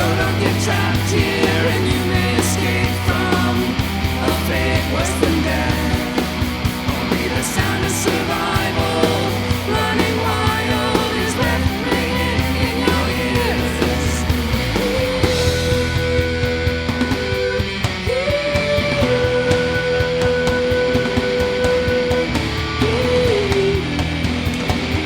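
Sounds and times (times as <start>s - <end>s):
bass guitar: 0.0s - 25.0s
drums beating: 0.0s - 25.0s
guitar: 0.0s - 25.0s.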